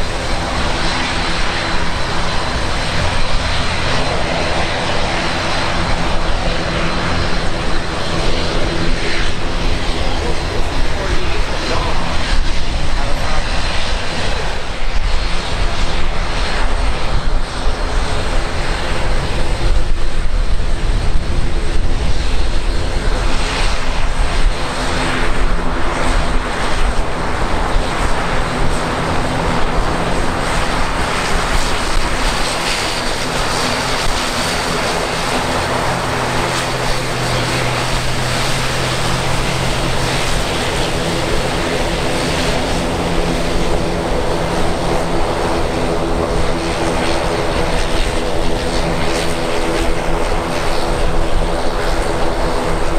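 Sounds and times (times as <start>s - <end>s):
aircraft engines droning: 0.0s - 52.9s.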